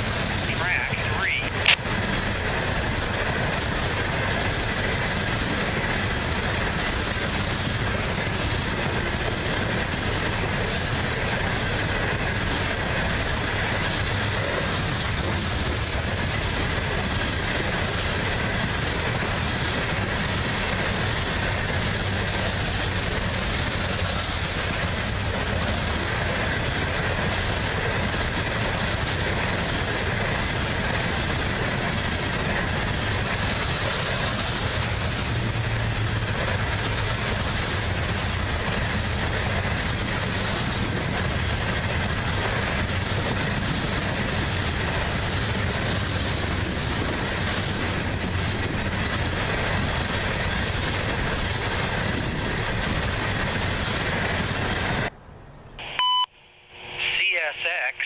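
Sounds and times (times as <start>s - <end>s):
train wheels rumbling on rails: 0.0s - 55.2s.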